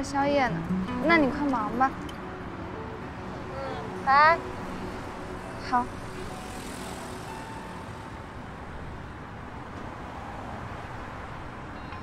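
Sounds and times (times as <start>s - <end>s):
city traffic rushing: 0.0s - 12.0s.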